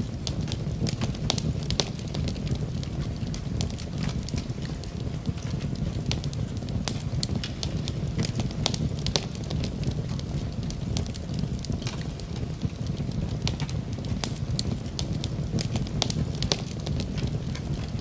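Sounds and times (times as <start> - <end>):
rain: 0.0 - 18.0
wood fire crackling: 0.0 - 18.0.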